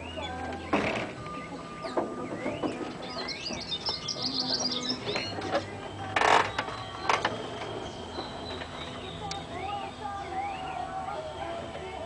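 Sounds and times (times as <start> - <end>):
small birds twittering: 0.0 - 12.0.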